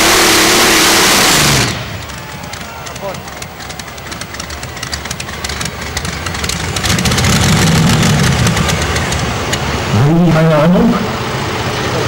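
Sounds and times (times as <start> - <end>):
exhaust crackling: 0.0 - 12.0
tractor engines idling and revving: 0.0 - 12.0.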